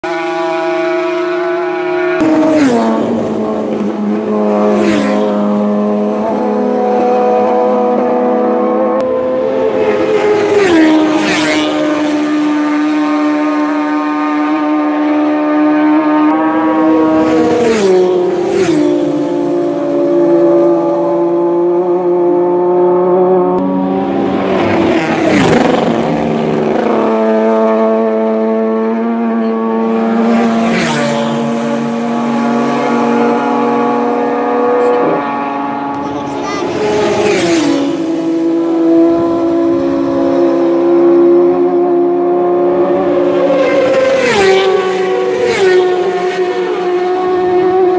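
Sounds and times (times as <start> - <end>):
racing motorcycles passing by: 0.0 - 47.9.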